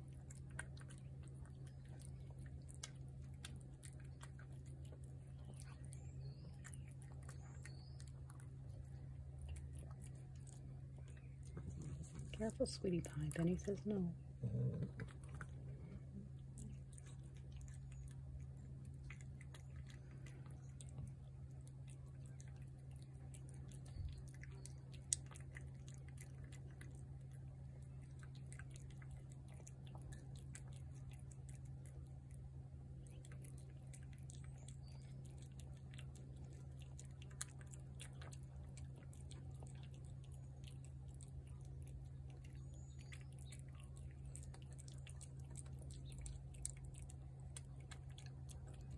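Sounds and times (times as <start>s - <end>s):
cat chewing wet food: 0.0s - 48.9s
steady low hum: 0.0s - 48.9s.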